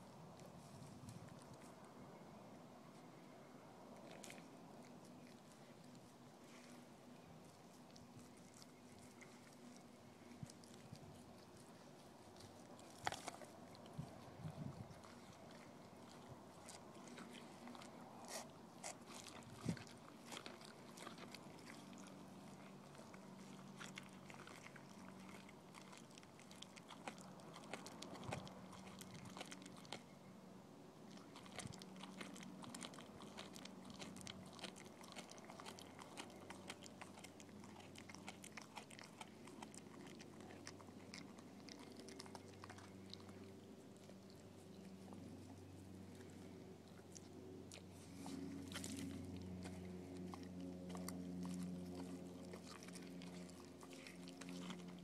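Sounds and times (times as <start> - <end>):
dog chewing: 3.9 - 55.0.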